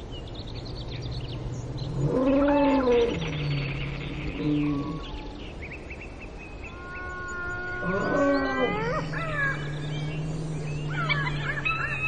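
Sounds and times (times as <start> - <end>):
low steady hum: 0.0 - 12.0
long gliding whistling calls: 2.3 - 12.0.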